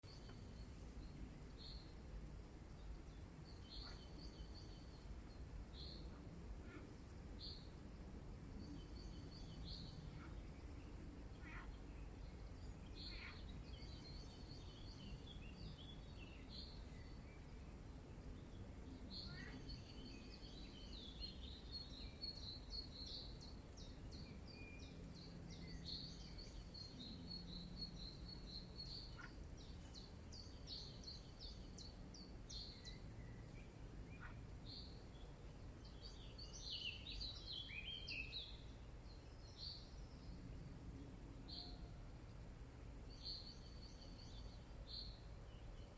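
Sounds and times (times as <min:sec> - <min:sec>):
small birds twittering: 0:00.0 - 0:42.4, 0:43.0 - 0:45.9.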